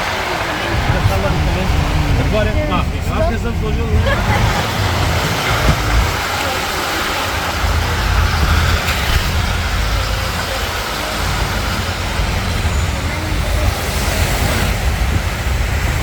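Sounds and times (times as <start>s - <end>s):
traffic rumble inside car: 0.0s - 16.0s.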